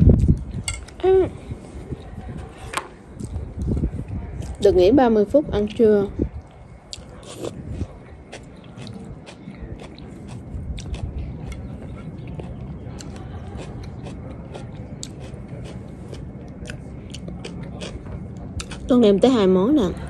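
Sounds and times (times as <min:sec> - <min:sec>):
chewing salad: 0:00.1 - 0:04.8, 0:05.6 - 0:19.2.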